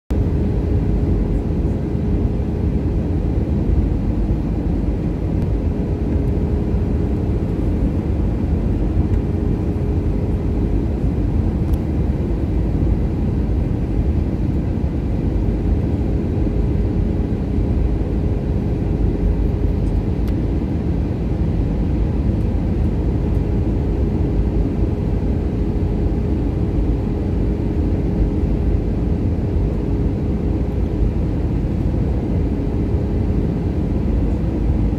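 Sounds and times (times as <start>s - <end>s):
aircraft cabin engine rumble: 0.1s - 34.9s
constant hum: 0.1s - 34.9s.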